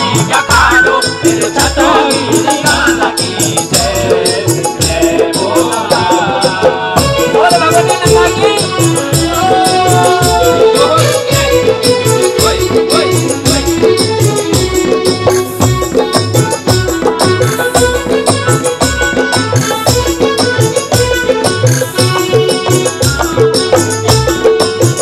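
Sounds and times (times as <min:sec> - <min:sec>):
busy percussion strokes: 0:00.0 - 0:25.0
steady drum beat: 0:00.0 - 0:25.0
sliding held melody line: 0:00.3 - 0:25.0.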